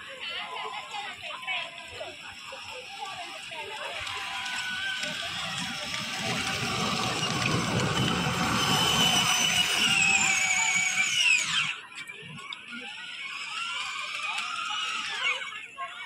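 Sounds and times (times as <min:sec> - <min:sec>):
toy car electric motors whining: 0:00.0 - 0:16.0.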